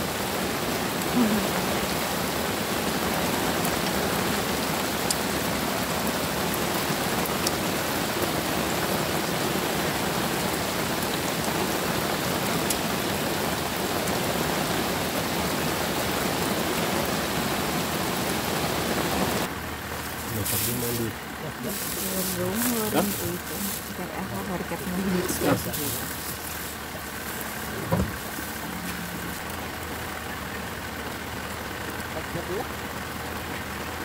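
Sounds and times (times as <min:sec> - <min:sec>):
rain pattering on an umbrella: 0:00.0 - 0:34.0.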